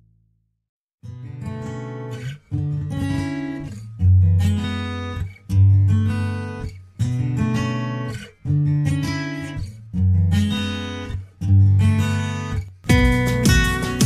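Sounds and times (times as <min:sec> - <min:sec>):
strummed acoustic guitar chords: 0:01.0 - 0:14.0.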